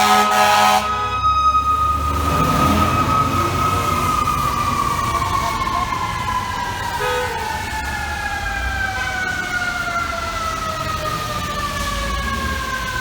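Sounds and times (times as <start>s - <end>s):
fire truck siren winding down: 0.0s - 13.0s
low traffic rumble: 0.0s - 13.0s.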